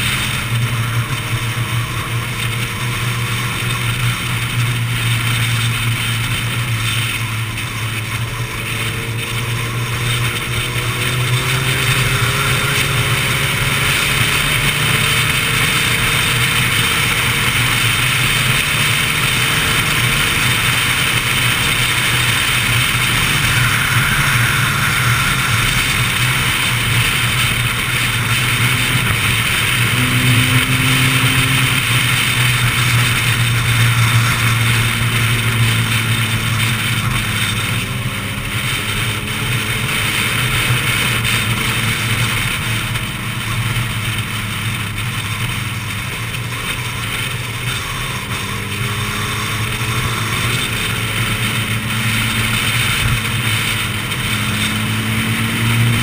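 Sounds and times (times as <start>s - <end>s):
motorcycle engine drone: 0.0s - 56.0s.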